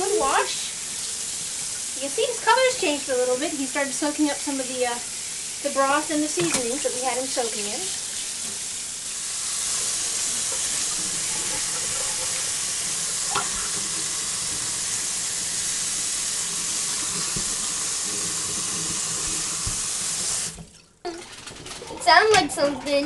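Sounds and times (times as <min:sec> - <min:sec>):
faucet water splashing in sink: 0:00.0 - 0:23.0.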